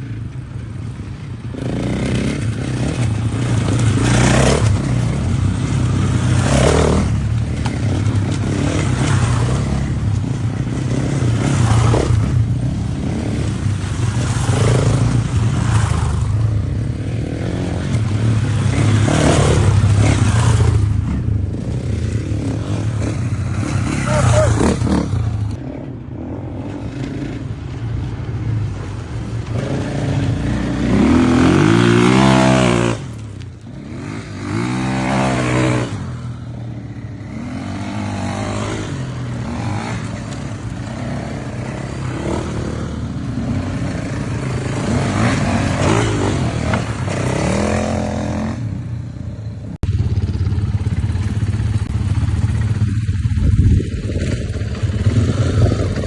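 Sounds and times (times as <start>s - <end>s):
motocross bike engine revving: 1.5s - 25.6s, 29.5s - 48.9s, 49.6s - 56.0s.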